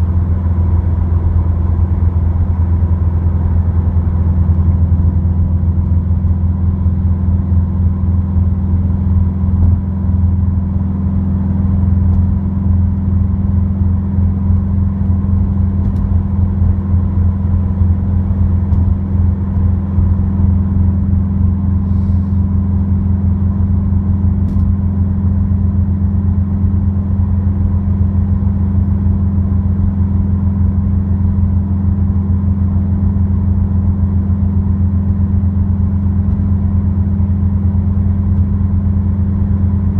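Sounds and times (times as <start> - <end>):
exhaust drone inside car: 0.0 - 39.9.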